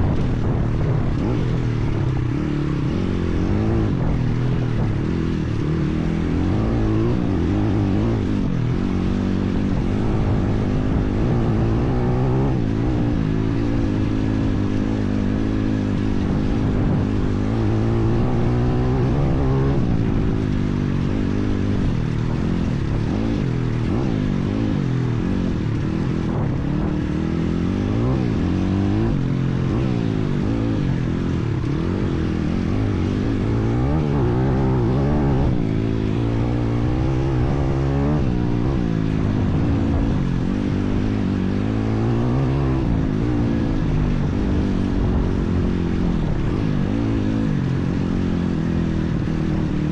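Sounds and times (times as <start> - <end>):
motorbike engine revving: 0.0 - 49.9.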